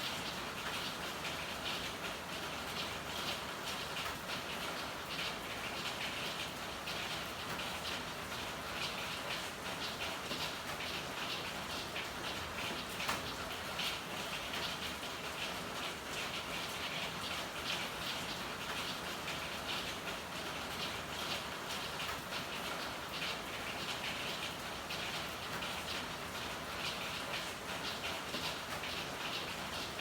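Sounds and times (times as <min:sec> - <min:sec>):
steady rain hissing: 0:00.0 - 0:30.0.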